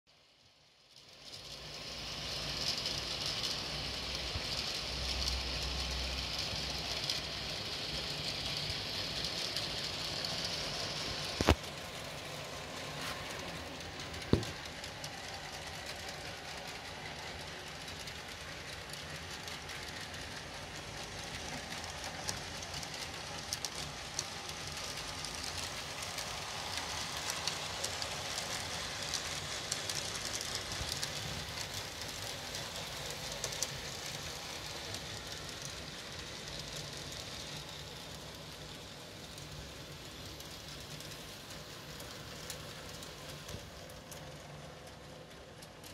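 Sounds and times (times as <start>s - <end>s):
model train wheel rumble: 0.2s - 45.9s
model train motor whine: 0.9s - 45.0s.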